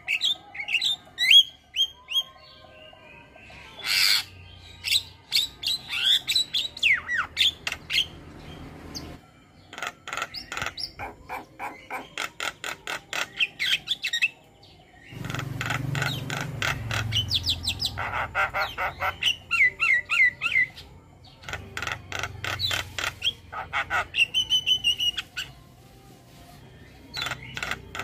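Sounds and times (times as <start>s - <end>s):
starling song: 0.0s - 28.0s.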